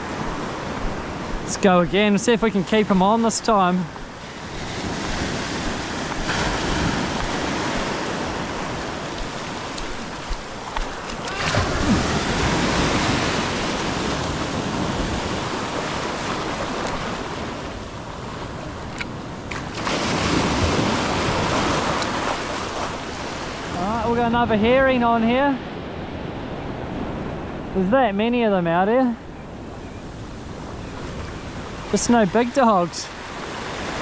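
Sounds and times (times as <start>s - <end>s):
ocean surf breaking: 0.0s - 34.0s.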